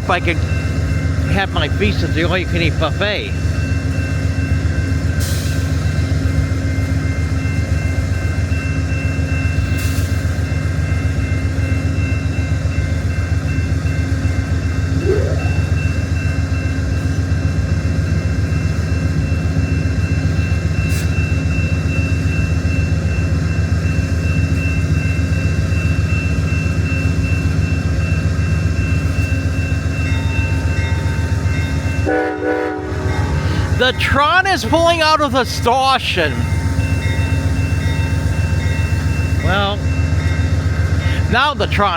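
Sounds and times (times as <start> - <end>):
diesel locomotive idling: 0.0 - 41.9.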